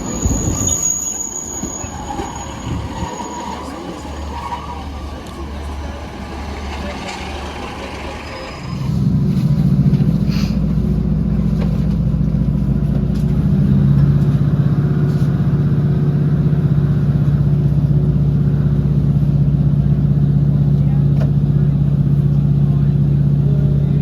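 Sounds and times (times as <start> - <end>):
diesel train engine throttling up: 0.0 - 24.0.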